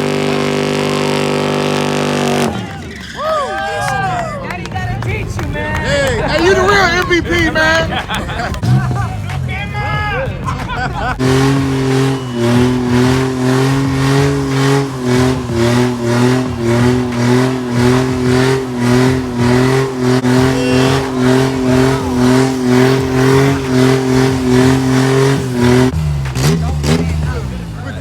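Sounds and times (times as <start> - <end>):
car engine at high revs: 0.0 - 3.1, 4.7 - 28.0.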